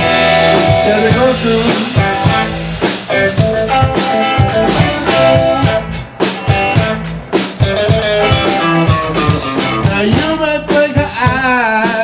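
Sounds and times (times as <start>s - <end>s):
drum kit beat: 0.0s - 12.0s
electric bass: 0.0s - 12.0s
electric guitar: 0.0s - 12.0s.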